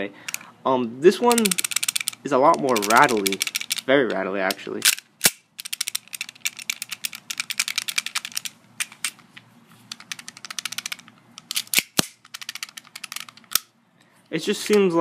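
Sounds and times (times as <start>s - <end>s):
pistol rattling when shaken: 1.3s - 13.7s.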